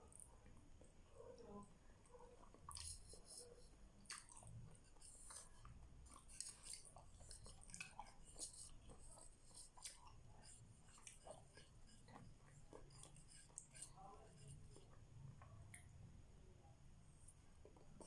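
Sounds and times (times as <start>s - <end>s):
faint close-up chewing: 0.0s - 16.4s, 17.0s - 18.0s.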